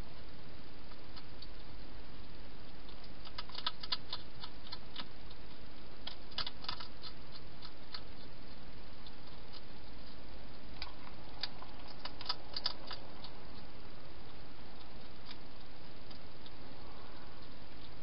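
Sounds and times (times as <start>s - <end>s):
steady hiss: 0.0s - 18.0s
hedgehog chewing clicks: 0.8s - 18.0s.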